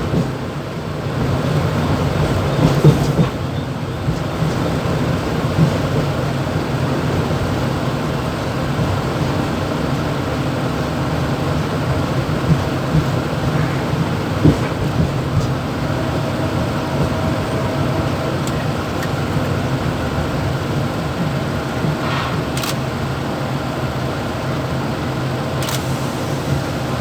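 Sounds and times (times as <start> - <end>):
train cab hum and rumble: 0.0 - 27.0.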